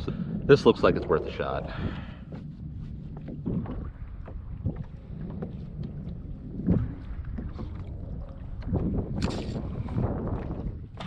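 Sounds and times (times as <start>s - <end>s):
water slapping kayak hull: 0.0s - 11.0s
wind on microphone: 0.0s - 11.0s.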